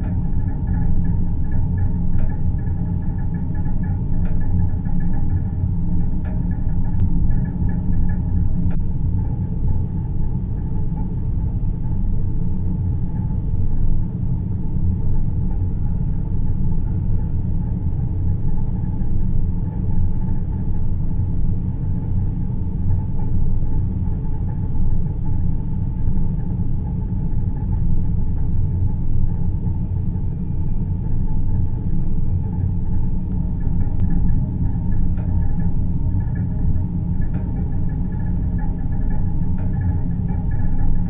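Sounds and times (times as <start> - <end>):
deep rumble: 0.0 - 41.0.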